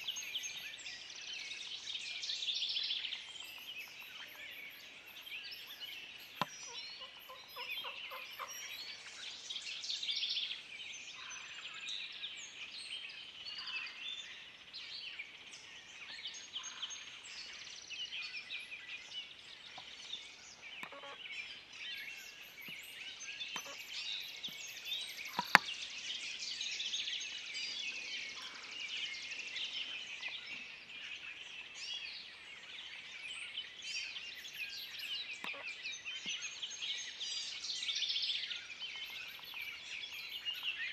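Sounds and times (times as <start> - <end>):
songbirds chorus: 0.0 - 40.9.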